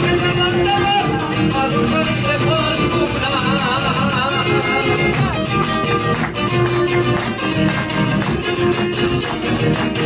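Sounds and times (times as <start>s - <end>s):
acoustic guitar folk music: 0.0s - 10.0s.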